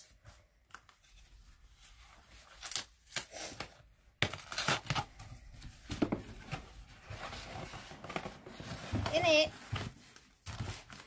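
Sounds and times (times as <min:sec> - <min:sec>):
paper packaging rustling: 0:00.7 - 0:11.0.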